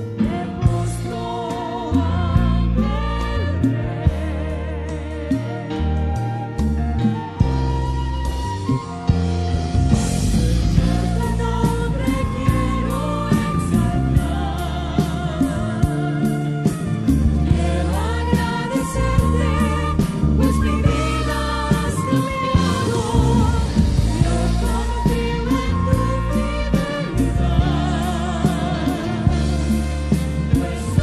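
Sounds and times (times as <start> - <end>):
band with drums and bass: 0.0 - 31.0
choir singing worship music: 0.0 - 31.0.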